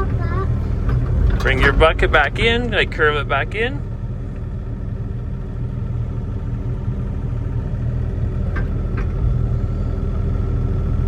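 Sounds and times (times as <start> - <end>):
excavator diesel engine rumbling: 0.0 - 11.0.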